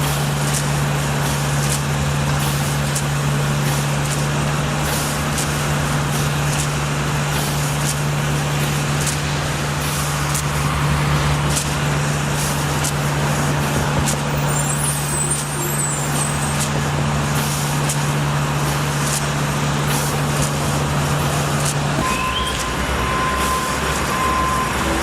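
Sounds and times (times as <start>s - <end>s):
broad noise: 0.0s - 25.0s
large engine humming: 0.0s - 25.0s.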